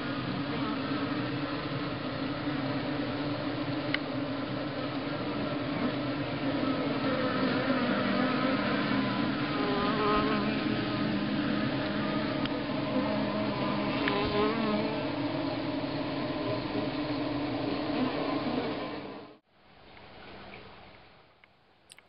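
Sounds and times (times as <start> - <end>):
bees buzzing: 0.0 - 19.4.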